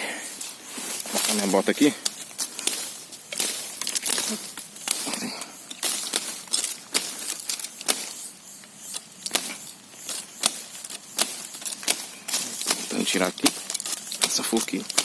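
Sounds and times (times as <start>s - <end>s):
leaves and twigs rustling: 0.0s - 15.0s.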